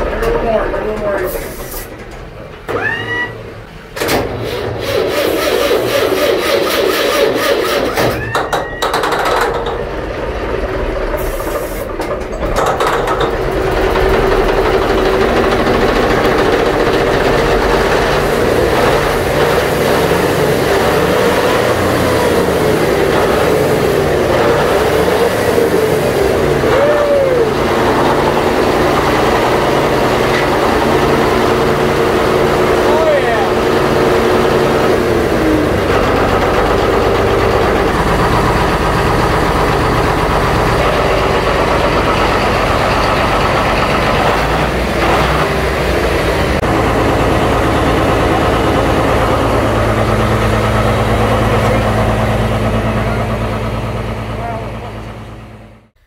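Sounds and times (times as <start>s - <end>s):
diesel engine cranking and running: 0.0s - 56.0s.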